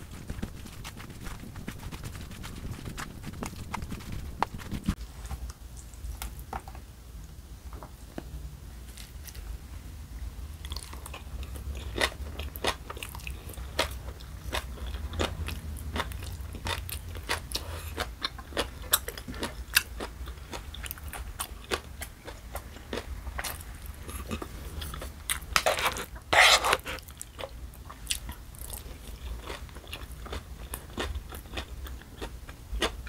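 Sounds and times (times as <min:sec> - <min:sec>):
chewing with wet crunches: 0:00.0 - 0:05.0, 0:10.6 - 0:33.0.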